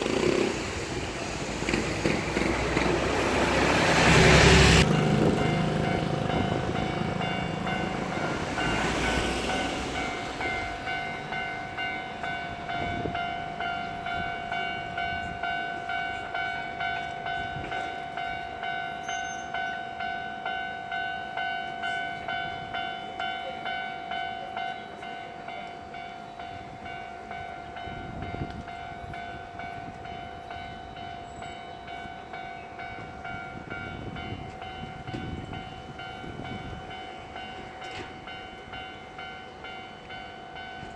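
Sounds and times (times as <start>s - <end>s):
level crossing warning bell: 0.0s - 40.9s
passing train rumble: 0.0s - 40.9s.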